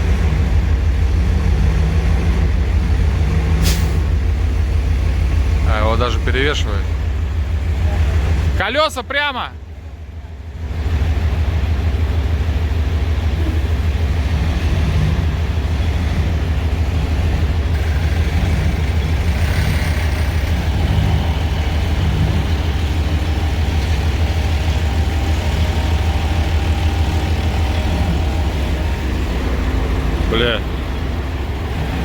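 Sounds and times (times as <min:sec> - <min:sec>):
heavy engine humming: 0:00.0 - 0:32.0.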